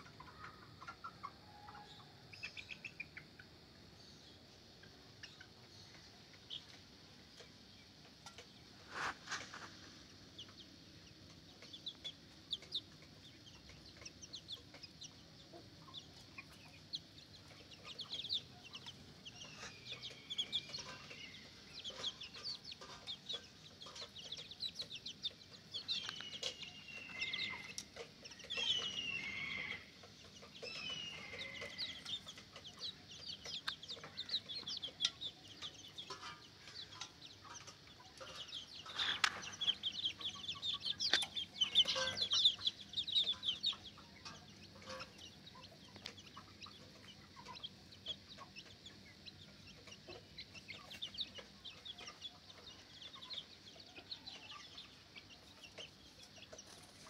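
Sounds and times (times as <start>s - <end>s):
chicks peeping and cheeping: 0.0s - 57.0s.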